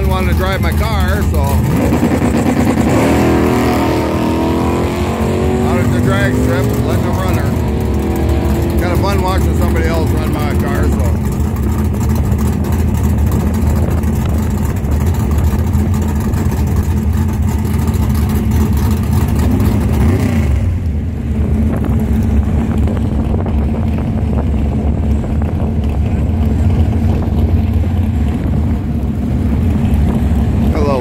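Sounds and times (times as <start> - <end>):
drag car engine rumbling: 0.0 - 31.0.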